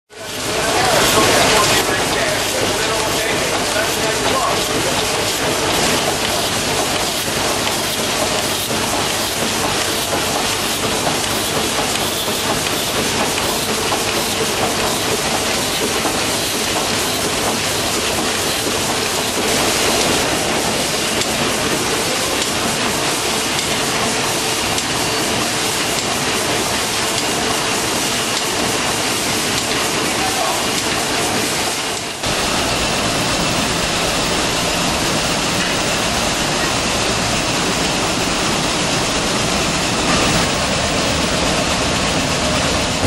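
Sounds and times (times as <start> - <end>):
steam engine clatter: 0.2 - 43.0.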